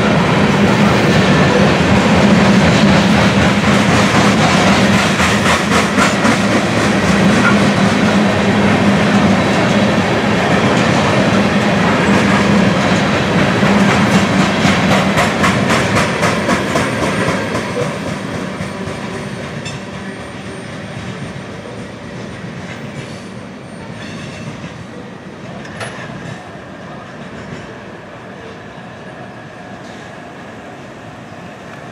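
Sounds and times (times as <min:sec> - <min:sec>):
freight train wheels clicking on rails: 0:00.0 - 0:28.0.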